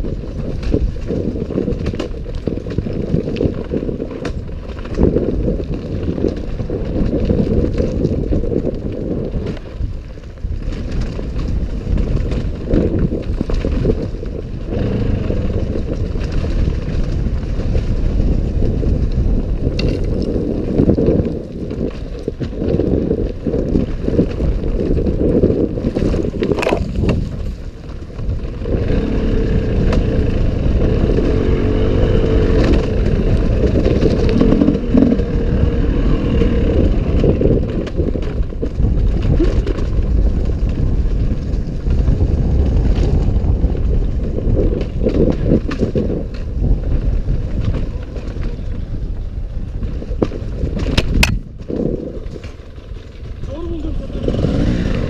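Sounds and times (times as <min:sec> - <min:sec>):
bike rattling and clattering: 0:00.0 - 0:55.0
wind rumble on microphone: 0:00.0 - 0:55.0.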